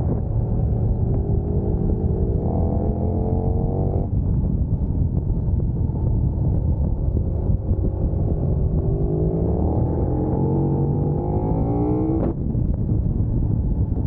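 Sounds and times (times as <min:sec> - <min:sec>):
motorcycle engine accelerating: 0:00.0 - 0:12.4
wind rush on microphone: 0:00.0 - 0:14.0.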